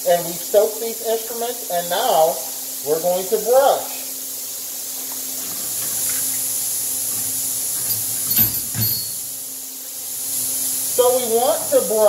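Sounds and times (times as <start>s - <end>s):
steady hiss and low hum: 0.0s - 12.0s.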